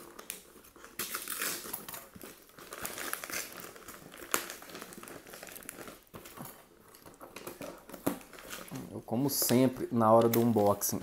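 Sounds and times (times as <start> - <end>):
packing paper crinkling: 0.0 - 11.0.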